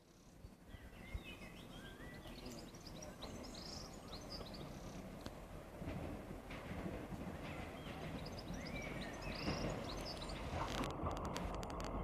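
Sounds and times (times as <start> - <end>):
songbirds chirping and trilling: 0.0 - 11.3
faint low outdoor rumble: 0.0 - 12.0.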